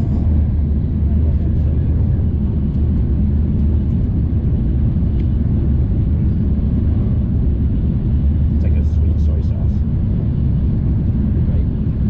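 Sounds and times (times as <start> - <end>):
train rumble from inside car: 0.0 - 12.0.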